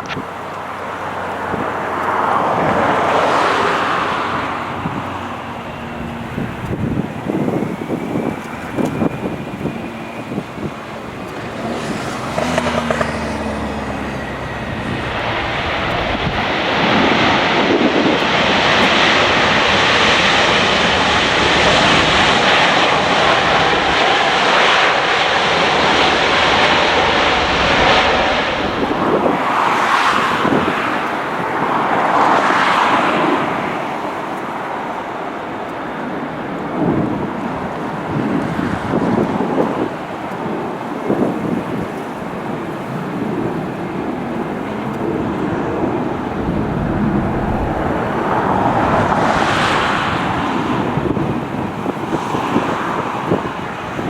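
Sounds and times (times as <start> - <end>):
jet engines passing: 0.0 - 54.0
wind buffeting microphone: 0.0 - 54.0.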